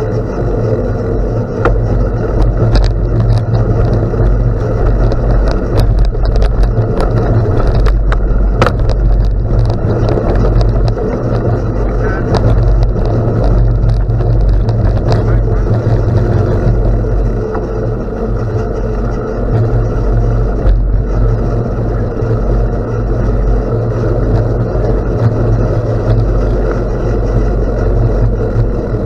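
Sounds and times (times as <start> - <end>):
bicycle tyres rolling on gravel: 0.0 - 29.0.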